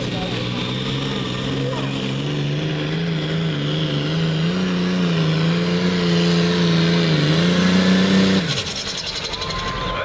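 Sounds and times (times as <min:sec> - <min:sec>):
diesel tractor engine revving hard: 0:00.0 - 0:10.0.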